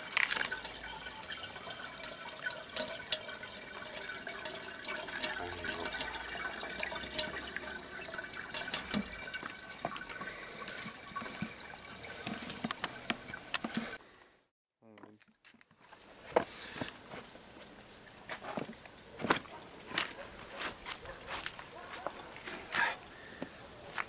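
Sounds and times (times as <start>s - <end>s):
juice pouring and splashing: 0.0s - 14.0s, 15.8s - 22.8s
small drips: 0.0s - 14.0s, 15.9s - 22.9s.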